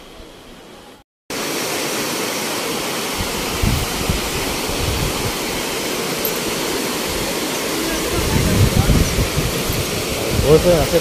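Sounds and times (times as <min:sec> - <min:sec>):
water cascading down rocks: 0:01.3 - 0:11.0.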